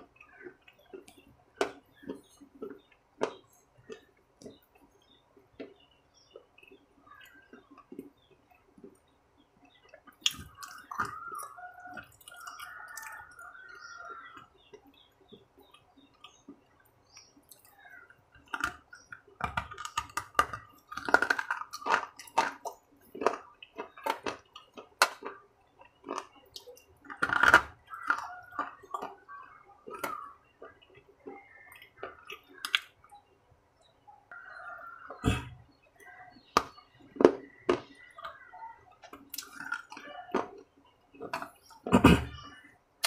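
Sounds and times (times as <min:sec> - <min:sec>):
crunchy bites: 0:00.0 - 0:09.1, 0:09.8 - 0:16.8, 0:17.4 - 0:33.1, 0:35.0 - 0:42.7.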